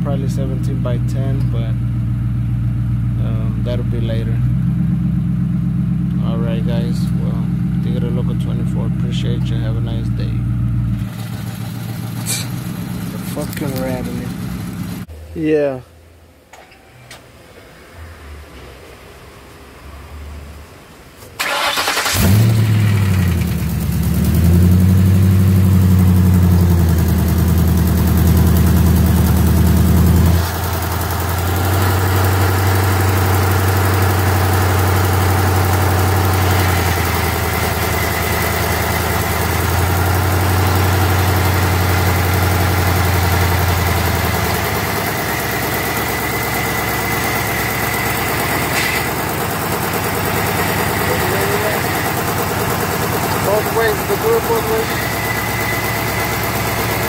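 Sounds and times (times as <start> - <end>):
car engine starting and idling: 0.0 - 15.2, 16.4 - 57.0.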